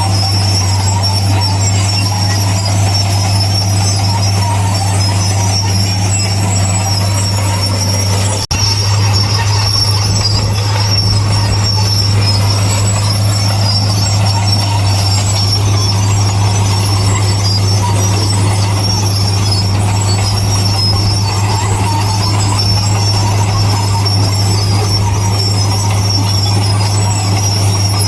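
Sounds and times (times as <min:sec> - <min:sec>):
diesel engine droning: 0:00.0 - 0:28.0
metallic squealing: 0:00.0 - 0:28.0.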